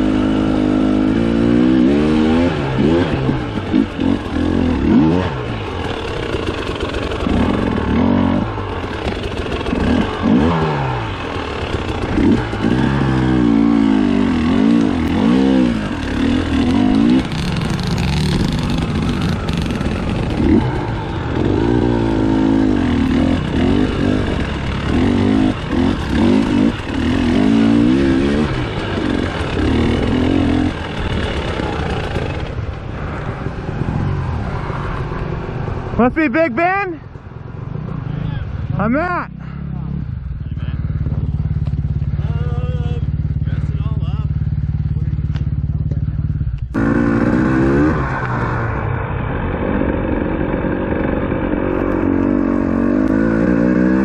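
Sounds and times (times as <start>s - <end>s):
dirt bike engine revving: 0.0s - 36.8s, 37.4s - 54.0s.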